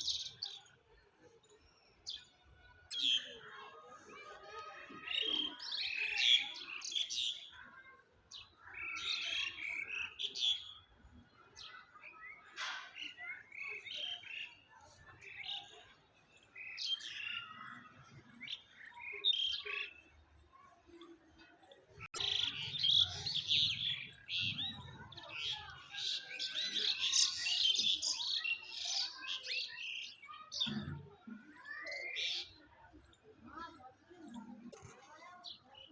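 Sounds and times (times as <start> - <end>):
birds chirping and twittering: 0.0 - 35.9.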